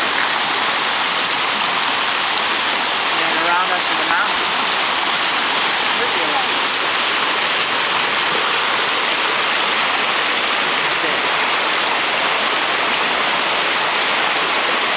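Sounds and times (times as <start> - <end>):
stream running over rocks: 0.0 - 14.9.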